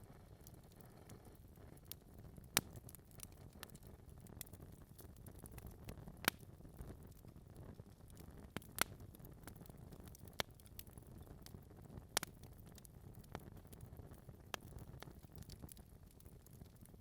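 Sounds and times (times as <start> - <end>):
log fire crackling: 0.0 - 17.0
burning wood popping: 0.4 - 17.0.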